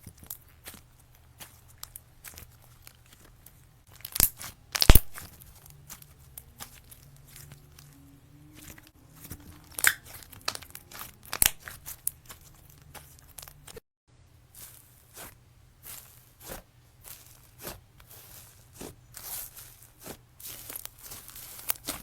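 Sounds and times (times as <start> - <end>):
slime crackling and popping: 0.1 - 7.9, 8.6 - 13.8, 14.6 - 22.0.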